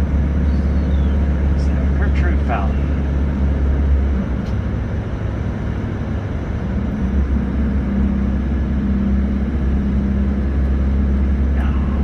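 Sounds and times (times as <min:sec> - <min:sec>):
coach engine drone: 0:00.0 - 0:12.0
road noise inside vehicle: 0:00.0 - 0:12.0.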